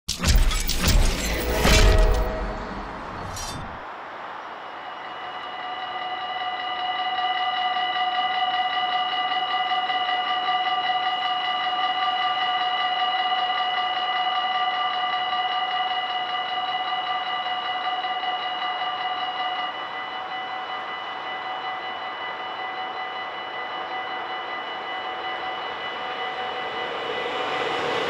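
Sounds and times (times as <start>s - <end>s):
level-crossing warning bell ringing: 5.0s - 28.0s.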